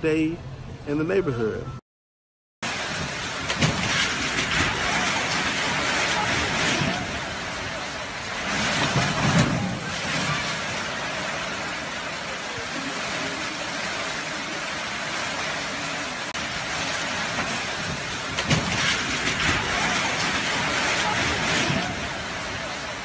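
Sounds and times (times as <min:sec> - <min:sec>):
heavy rain pouring: 0:02.6 - 0:23.0.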